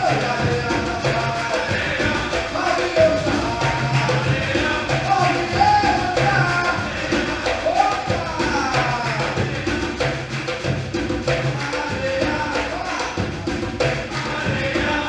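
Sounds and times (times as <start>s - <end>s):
low drums beating: 0.0s - 12.5s, 13.2s - 15.0s
voices singing: 0.0s - 15.0s.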